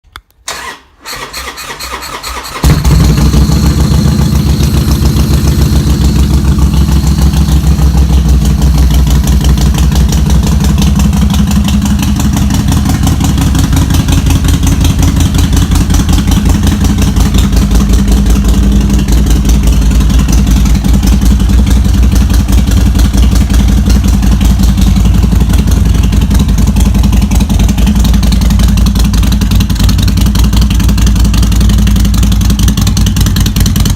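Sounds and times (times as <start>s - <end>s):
motorcycle engine idling: 2.6s - 33.9s.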